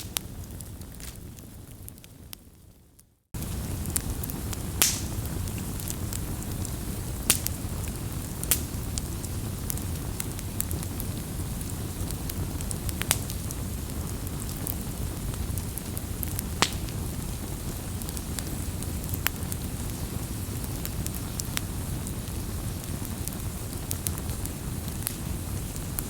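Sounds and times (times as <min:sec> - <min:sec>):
campfire crackles and pops: 0:00.0 - 0:26.0
low rumble of flames: 0:00.0 - 0:26.0.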